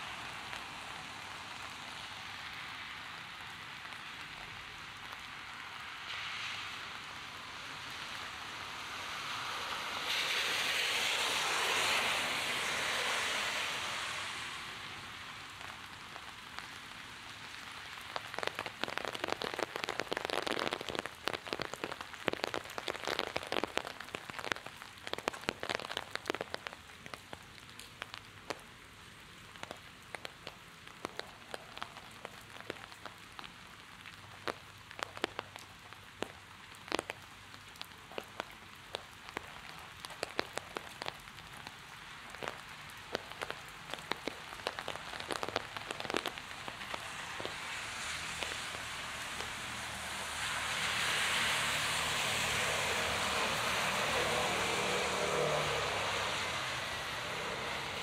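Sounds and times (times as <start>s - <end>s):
heavy rain hissing on street: 0.0s - 58.0s.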